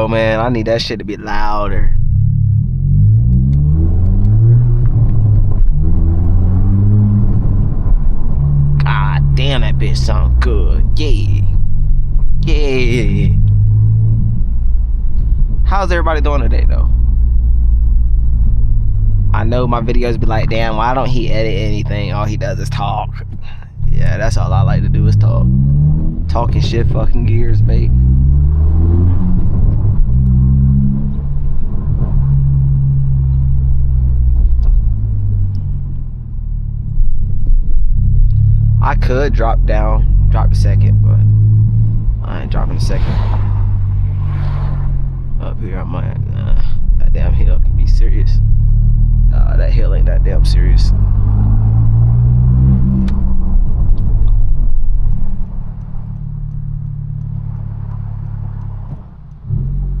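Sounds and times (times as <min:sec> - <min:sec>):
car engine droning under load: 0:00.0 - 1:00.0.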